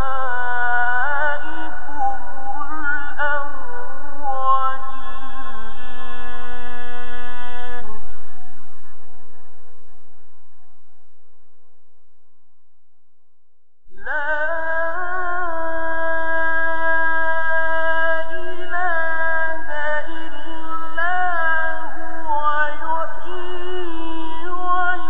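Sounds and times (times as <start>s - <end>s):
man reciting melodically: 0.0s - 10.4s, 13.9s - 25.0s.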